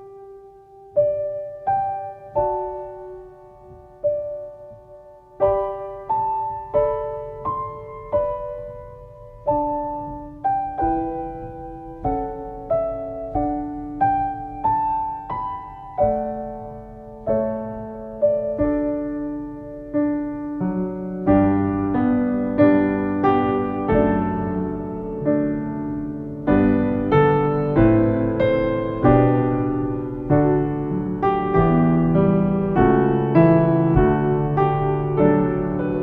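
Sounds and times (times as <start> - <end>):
slow solo piano melody: 0.0 - 36.0.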